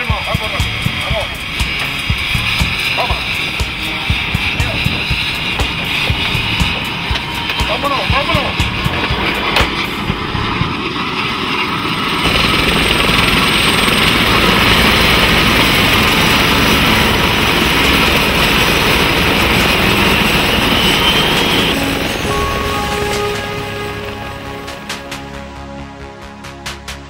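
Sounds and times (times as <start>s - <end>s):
turbine whine rising in pitch: 0.0s - 26.1s
helicopter engine and rotor noise: 0.0s - 26.5s.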